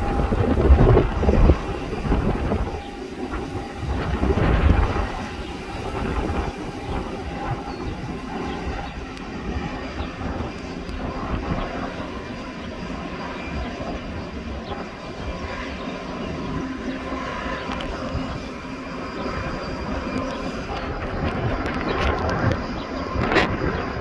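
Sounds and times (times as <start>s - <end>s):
jet turbine whine: 0.0s - 24.0s
wind rumble on microphone: 0.0s - 24.0s.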